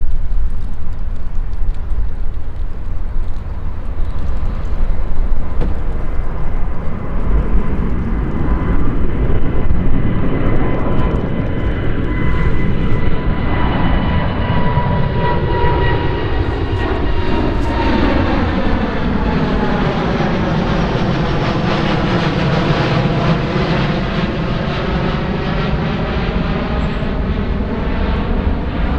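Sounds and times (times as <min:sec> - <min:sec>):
jet engines rumbling: 0:00.0 - 0:28.9
jet fan whine: 0:00.0 - 0:28.9.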